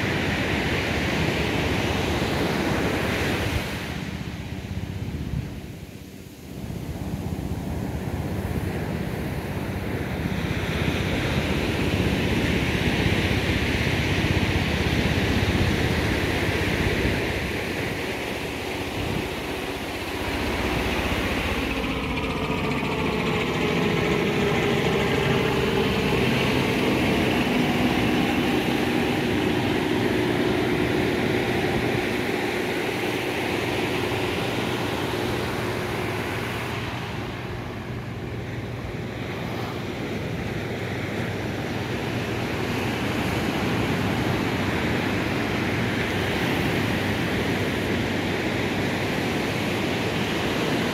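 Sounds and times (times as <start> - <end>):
engine hum passing by: 0.0 - 50.9
surf washing on sandy beach: 0.0 - 50.9.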